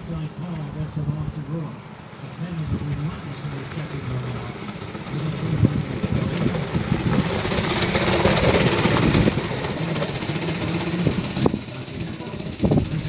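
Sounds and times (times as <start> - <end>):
go-kart engine passing by: 1.5 - 13.0.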